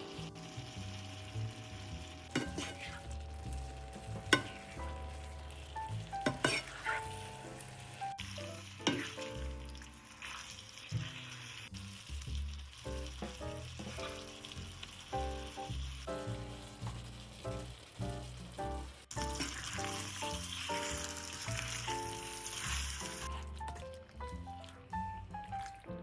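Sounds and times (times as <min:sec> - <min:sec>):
soft background music: 0:00.0 - 0:11.4, 0:12.4 - 0:26.0
food sizzling in frying pan: 0:00.0 - 0:26.0.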